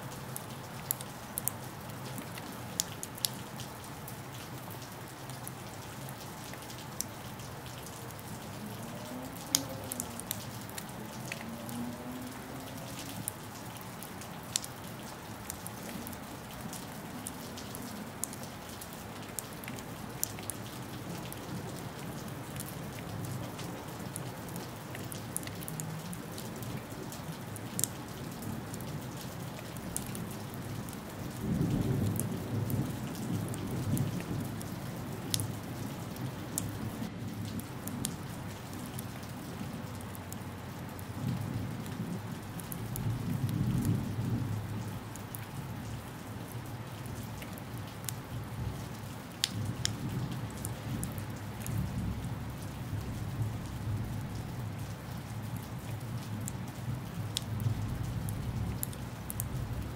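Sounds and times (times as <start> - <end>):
raindrops ticking on surfaces: 0.0 - 59.9
steady rain falling: 0.0 - 59.9.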